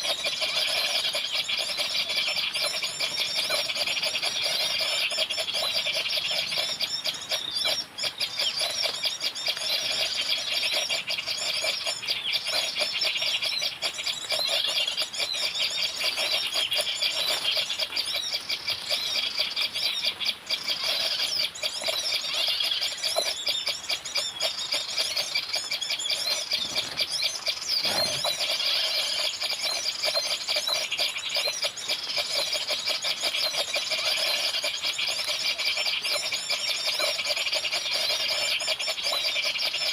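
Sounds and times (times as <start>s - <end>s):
birds twittering and chirping: 0.0s - 39.9s.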